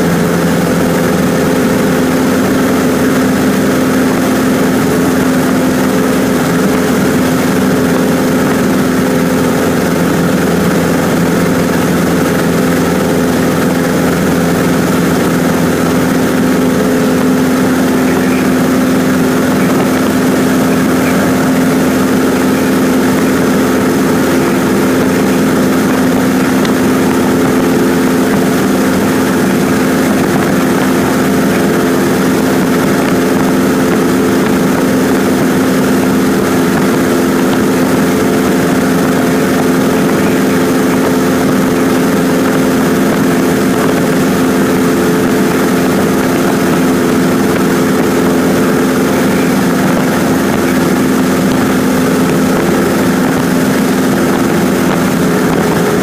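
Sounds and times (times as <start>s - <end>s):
propeller plane engine hum in cabin: 0.0s - 56.0s.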